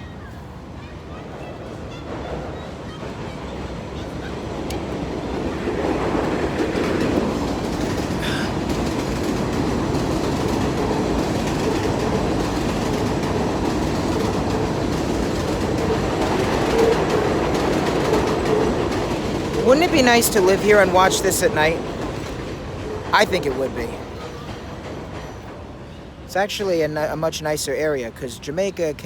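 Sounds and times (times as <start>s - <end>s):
elevated train rumbling past: 0.0s - 29.0s.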